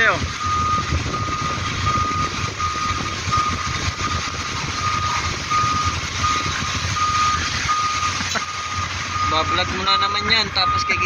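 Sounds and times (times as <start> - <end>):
vehicle backup alarm beeping: 0.0 - 11.0.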